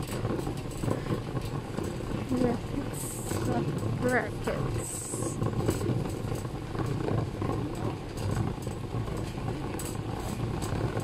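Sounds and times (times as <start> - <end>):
shopping cart wheels rumbling: 0.0 - 11.0
store hum: 0.0 - 11.0.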